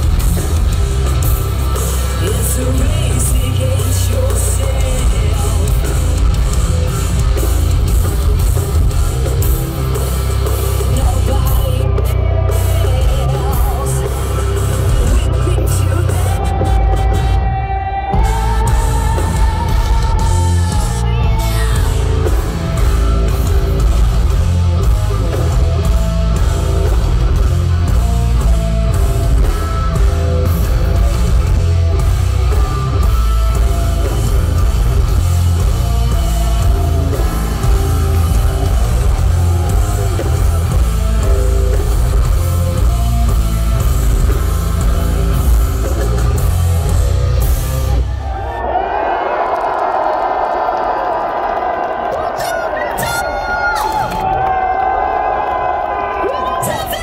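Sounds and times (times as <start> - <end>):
live heavy metal band: 0.0 - 57.0.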